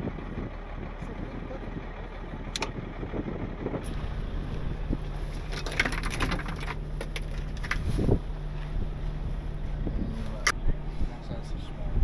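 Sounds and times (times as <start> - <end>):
trucks idling hum: 0.0 - 12.0.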